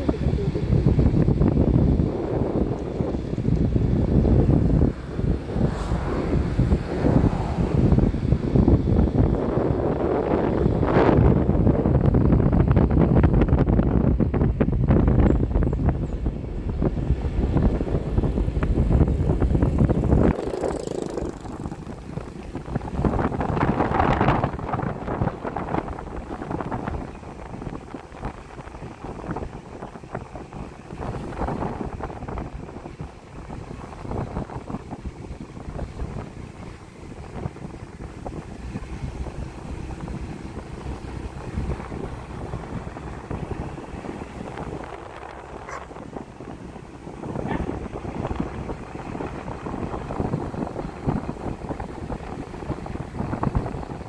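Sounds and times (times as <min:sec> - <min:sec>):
heavy vehicle rumble: 0:00.0 - 0:54.0
wind buffeting microphone: 0:00.0 - 0:54.0.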